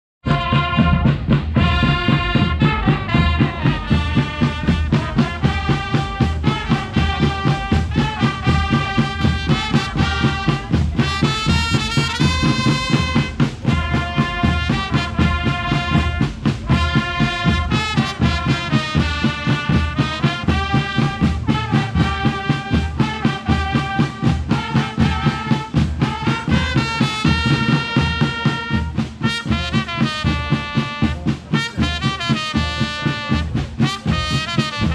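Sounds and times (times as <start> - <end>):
brass melody: 0.2 - 34.9
marching drum beat: 0.2 - 34.9.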